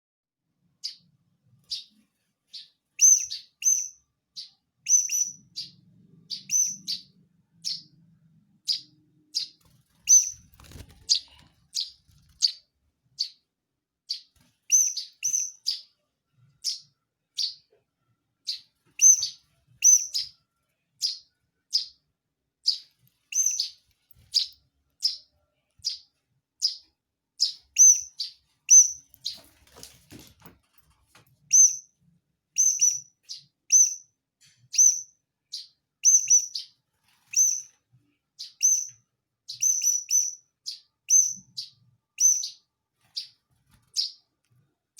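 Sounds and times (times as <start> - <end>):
sparrow chirping: 0.8 - 17.7, 18.4 - 20.4, 21.0 - 22.0, 22.6 - 29.5, 31.4 - 44.3.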